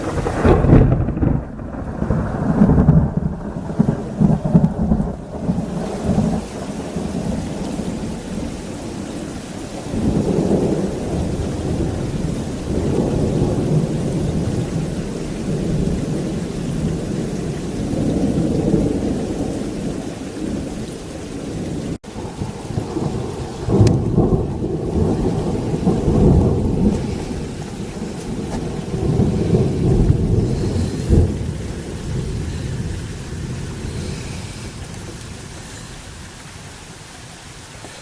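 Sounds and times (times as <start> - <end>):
thunder rolling: 0.0 - 36.4
heavy rain: 0.0 - 38.0.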